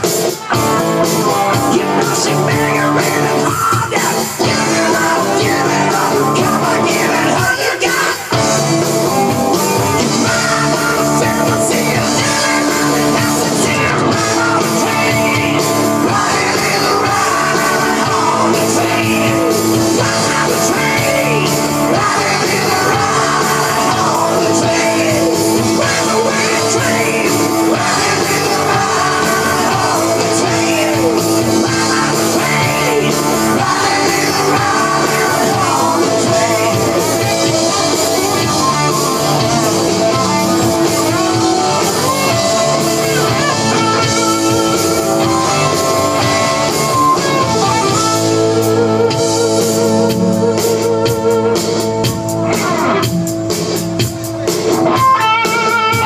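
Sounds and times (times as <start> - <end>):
electric guitar: 0.0 - 56.0
person singing: 0.0 - 56.0.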